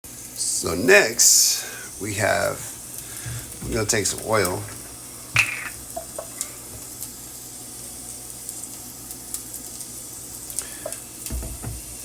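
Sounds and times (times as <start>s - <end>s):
onion sizzling in a pan: 0.1s - 12.0s.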